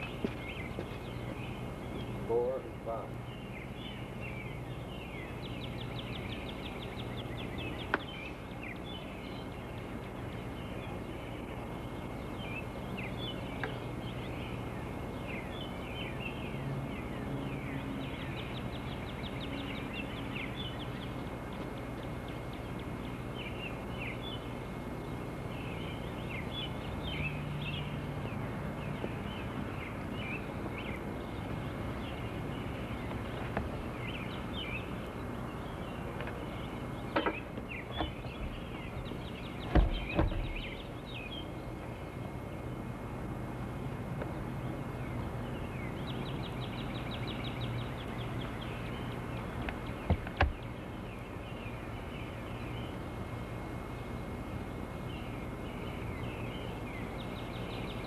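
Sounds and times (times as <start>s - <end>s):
birds singing: 0.0s - 58.0s
steady low hum: 0.0s - 58.0s.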